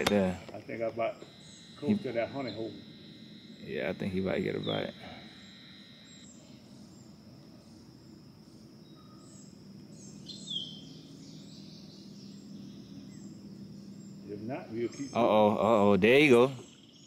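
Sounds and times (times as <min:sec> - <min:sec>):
bird chirps: 0:00.0 - 0:17.0
high insect drone: 0:00.0 - 0:17.0.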